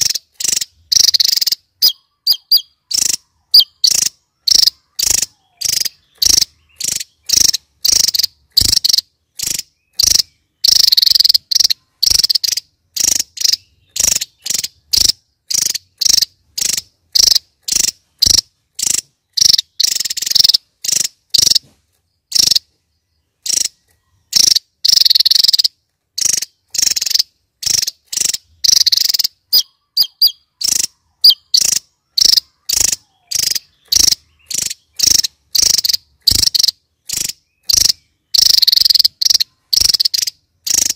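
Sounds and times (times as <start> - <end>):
bird song high chirping notes: 0.0 - 40.9.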